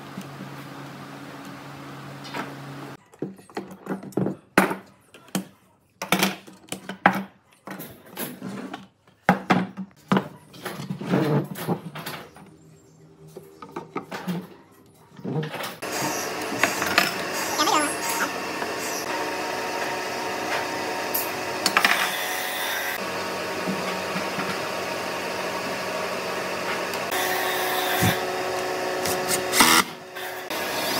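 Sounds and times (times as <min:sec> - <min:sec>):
workshop noise: 0:00.0 - 0:30.9.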